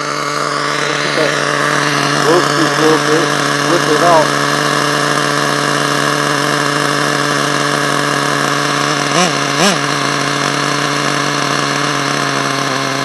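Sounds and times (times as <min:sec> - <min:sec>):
model nitro engine idling: 0:00.0 - 0:13.0.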